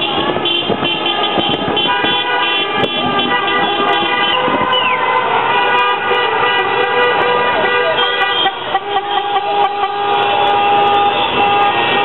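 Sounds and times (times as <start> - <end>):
many horns honking: 0.0 - 12.0
traffic noise: 0.0 - 12.0.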